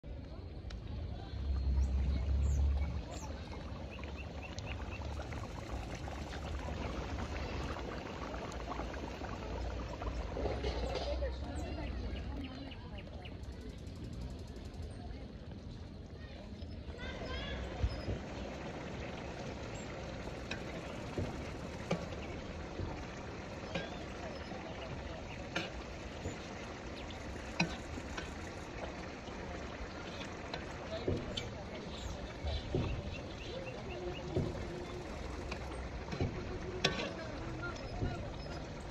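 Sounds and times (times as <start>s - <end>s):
broth boiling with bubbling hiss: 0.0s - 38.9s
low fire rumble: 0.0s - 38.9s.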